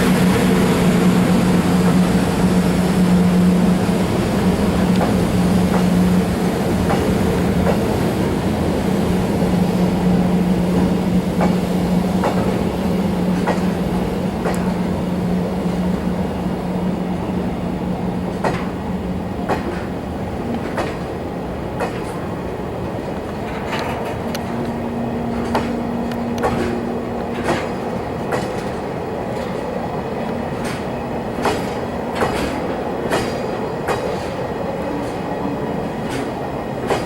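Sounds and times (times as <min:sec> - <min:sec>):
train wheels clicking over rail joints: 0:04.4 - 0:16.2, 0:18.0 - 0:37.0.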